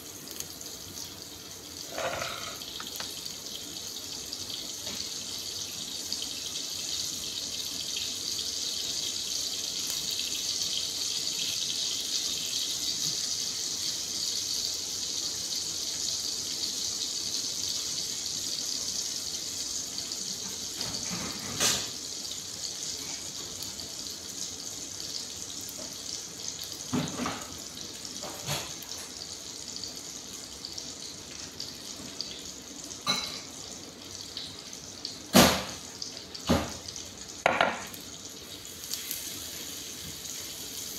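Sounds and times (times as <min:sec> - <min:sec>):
frying pan sizzling: 0:00.0 - 0:40.9.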